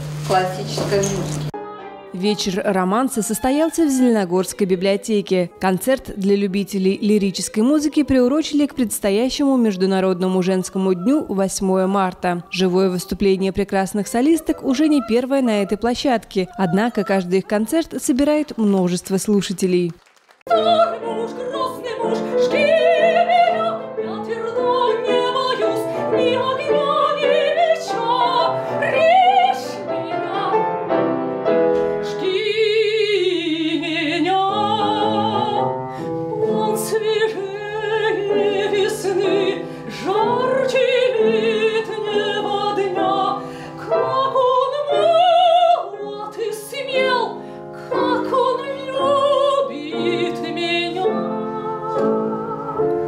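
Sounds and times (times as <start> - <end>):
piano accompaniment: 0.0 - 18.5, 20.4 - 53.0
woman singing operatically: 2.2 - 19.9, 20.5 - 30.7, 32.0 - 53.0.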